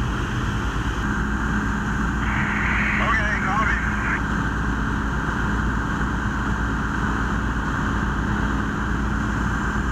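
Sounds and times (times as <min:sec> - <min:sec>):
fire engines running: 0:00.0 - 0:09.9.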